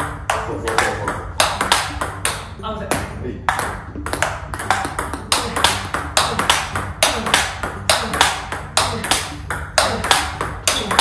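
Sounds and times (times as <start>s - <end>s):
ball bouncing on table: 0.0s - 11.0s
ball clicking off rackets: 0.0s - 11.0s.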